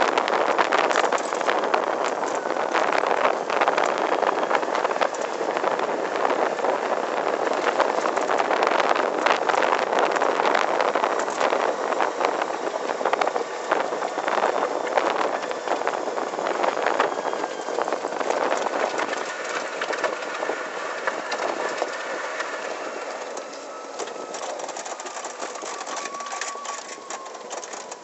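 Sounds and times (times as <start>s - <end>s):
chassis rattles: 0.0s - 28.0s
tyre and road noise: 0.0s - 28.0s.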